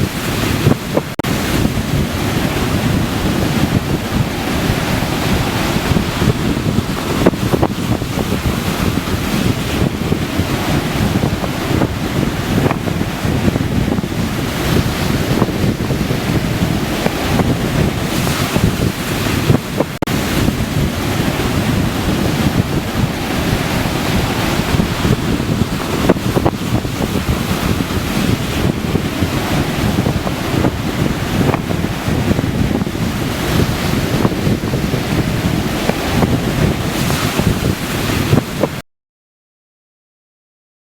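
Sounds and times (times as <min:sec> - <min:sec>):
ocean surf on beach: 0:00.0 - 0:38.8
wind buffeting microphone: 0:00.0 - 0:38.8.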